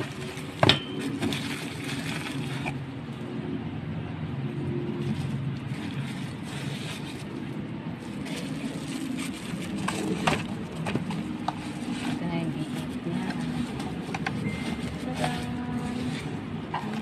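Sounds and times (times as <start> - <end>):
plastic and cardboard rustling: 0.0 - 3.2, 4.9 - 17.0.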